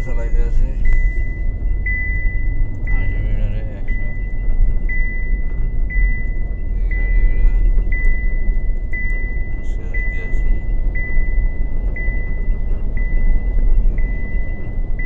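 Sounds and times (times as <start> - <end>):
car cabin road and engine rumble: 0.0 - 15.0
dashboard warning chime: 0.0 - 15.0.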